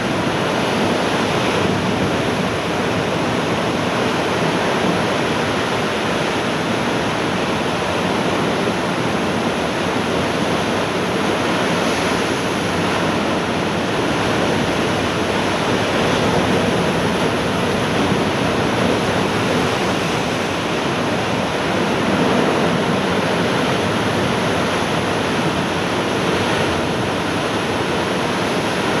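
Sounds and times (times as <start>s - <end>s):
heavy ocean surf breaking: 0.0s - 29.0s.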